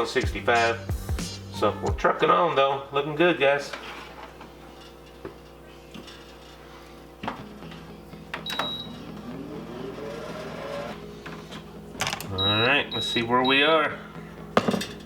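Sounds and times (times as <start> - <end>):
fan humming and whining: 0.0 - 15.0.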